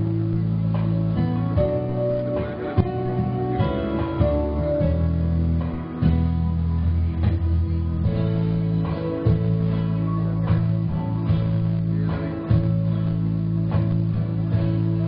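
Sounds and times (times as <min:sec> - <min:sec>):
bass line: 0:00.0 - 0:15.0
strummed acoustic guitars: 0:00.0 - 0:15.0.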